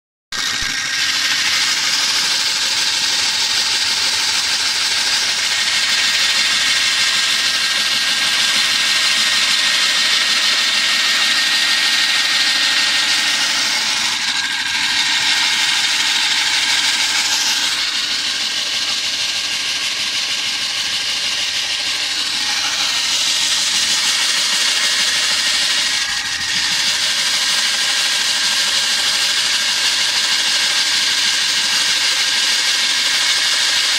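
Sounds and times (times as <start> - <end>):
core drill cutting concrete: 0.3 - 33.9.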